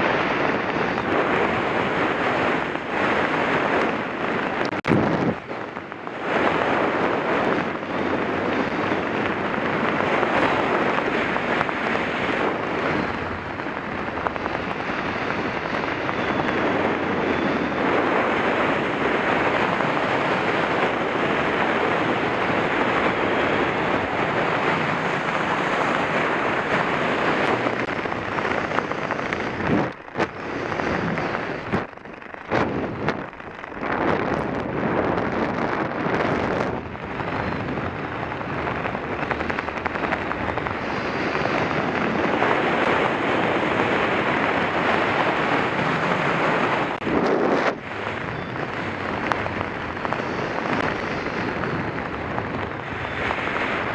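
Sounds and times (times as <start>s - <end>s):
wind roaring over microphone: 0.0s - 53.9s.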